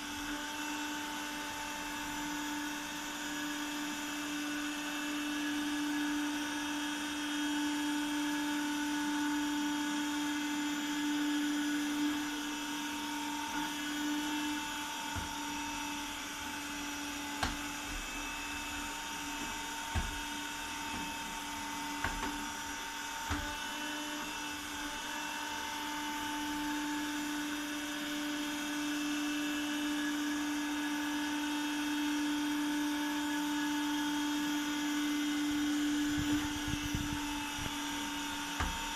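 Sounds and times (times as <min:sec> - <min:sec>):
suction fan whine: 0:00.0 - 0:38.9.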